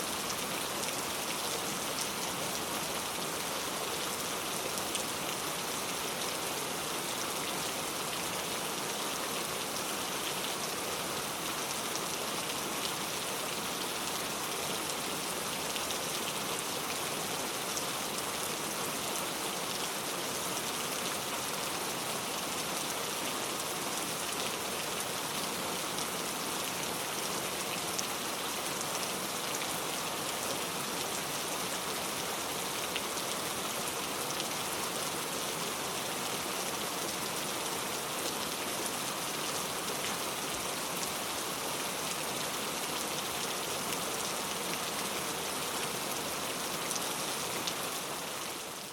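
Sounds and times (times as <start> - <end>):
heavy rain on a road: 0.0 - 48.9.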